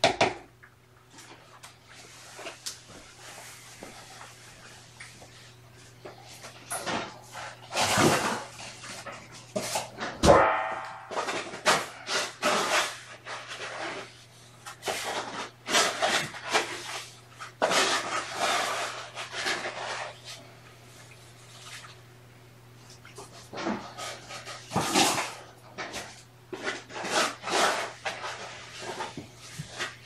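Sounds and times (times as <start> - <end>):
scratchy rustling and scraping: 1.2 - 10.1, 11.1 - 20.5, 22.9 - 30.0.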